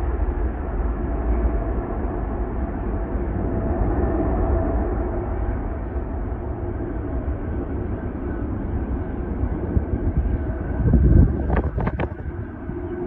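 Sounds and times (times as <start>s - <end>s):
jet engine roar at takeoff: 0.0s - 13.0s.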